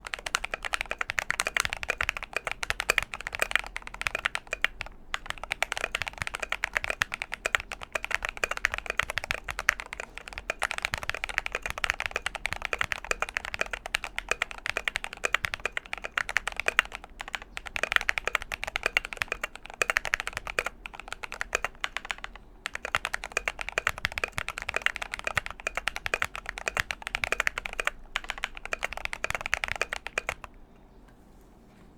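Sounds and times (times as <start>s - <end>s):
mechanical keyboard typing: 0.0s - 30.6s.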